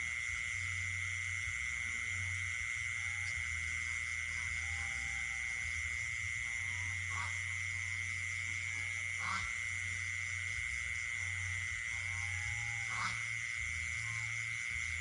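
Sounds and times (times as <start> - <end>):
frog croaks: 0.0 - 15.0
high-pitched insect trill: 0.0 - 15.0
low steady hum: 0.0 - 15.0.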